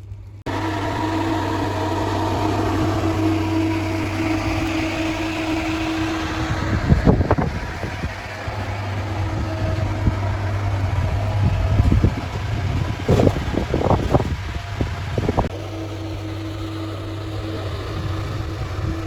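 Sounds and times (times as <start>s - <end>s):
industrial machinery droning: 0.0s - 19.0s.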